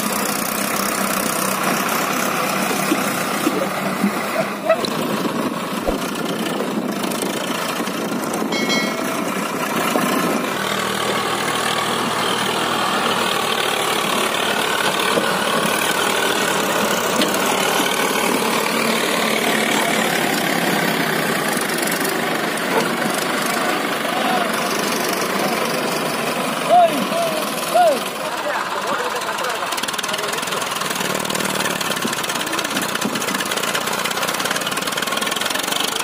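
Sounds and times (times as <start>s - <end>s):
diesel tractor engines under load: 0.0s - 36.0s.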